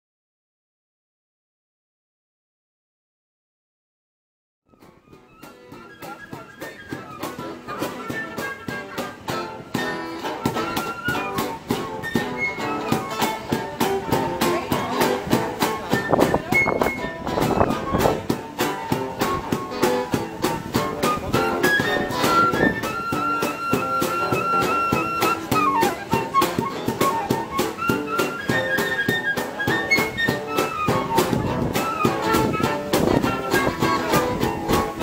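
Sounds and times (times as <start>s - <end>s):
flute playing melody: 4.7s - 35.0s
cajon beat: 4.8s - 35.0s
guitars strumming: 4.8s - 35.0s.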